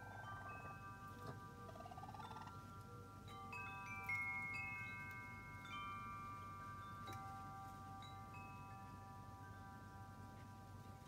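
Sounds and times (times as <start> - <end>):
wind chimes ringing: 0.0 - 11.0.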